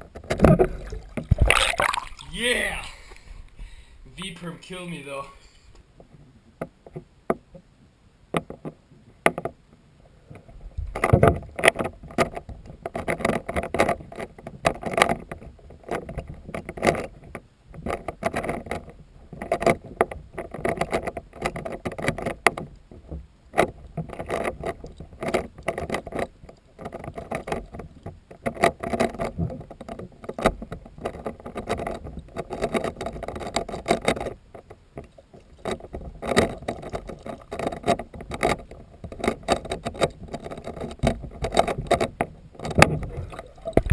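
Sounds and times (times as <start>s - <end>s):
water sloshing and splashing: 0.0s - 4.4s, 10.4s - 43.9s.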